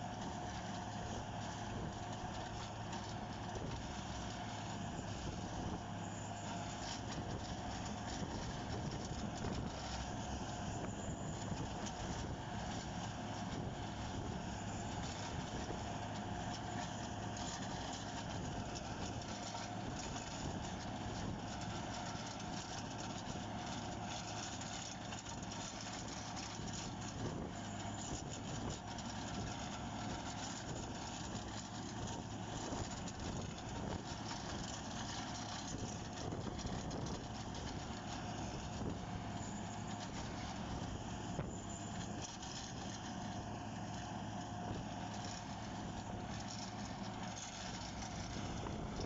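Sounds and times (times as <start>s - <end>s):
diesel engine running under load: 0.0s - 49.0s.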